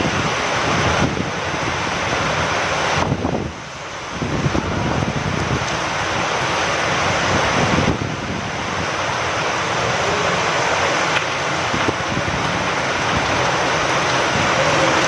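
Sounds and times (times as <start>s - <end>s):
steady rain with wind: 0.0s - 15.0s.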